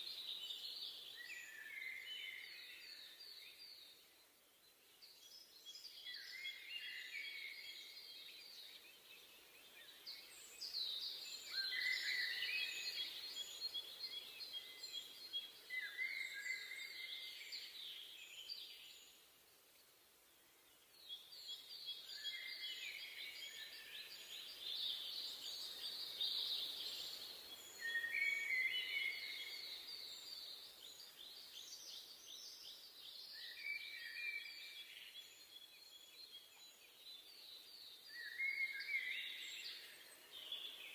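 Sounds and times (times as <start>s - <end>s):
faint background hiss: 0.0s - 40.9s
songbirds singing: 0.0s - 40.9s.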